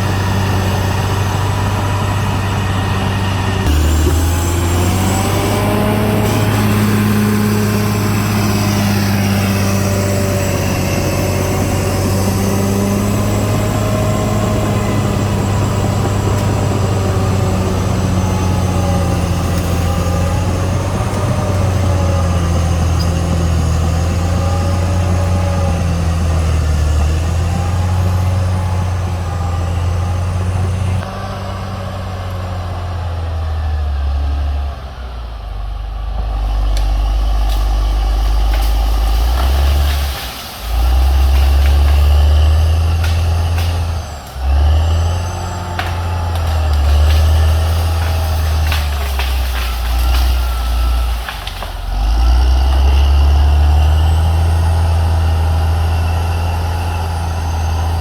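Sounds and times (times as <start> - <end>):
bulldozer engine drone: 0.0 - 58.0.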